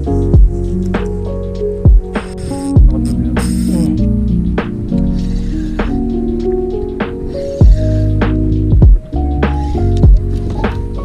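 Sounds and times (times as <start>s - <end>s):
held music chords: 0.0s - 11.0s.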